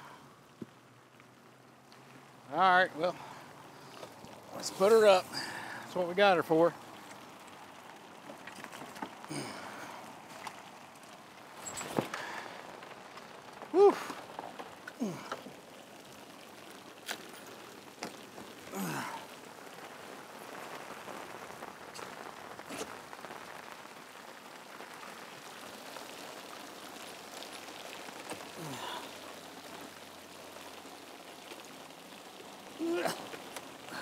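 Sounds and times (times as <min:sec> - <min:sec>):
heavy rain on boat and water: 0:00.0 - 0:34.0.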